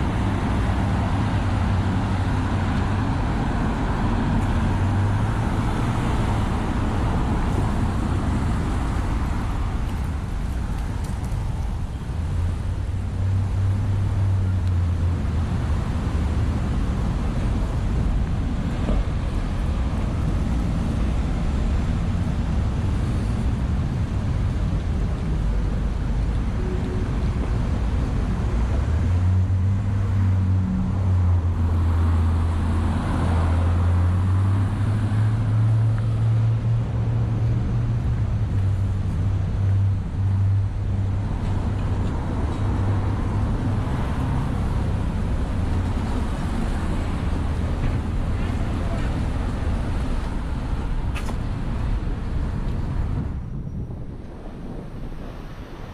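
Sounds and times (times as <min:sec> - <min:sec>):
passing car traffic: 0:00.0 - 0:55.9
wind rumble on microphone: 0:00.0 - 0:55.9.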